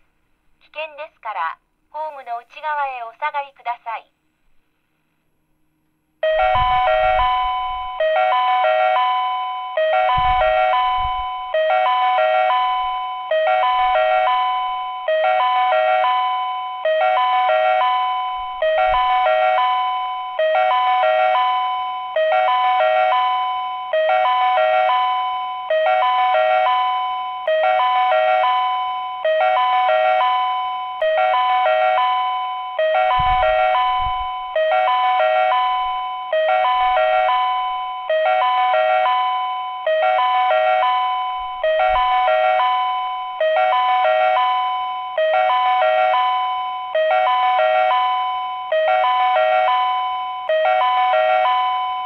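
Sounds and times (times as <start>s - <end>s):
electronic warning chime: 6.2s - 52.0s.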